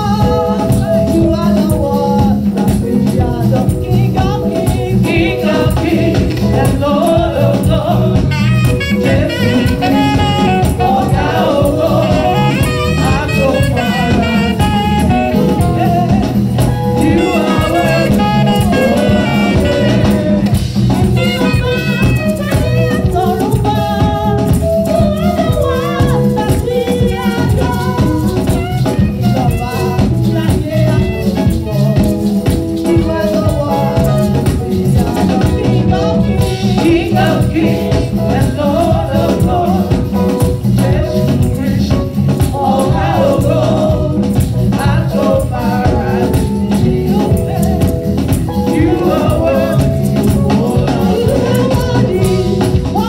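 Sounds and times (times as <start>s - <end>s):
choir and singers with band: 0.0s - 53.0s.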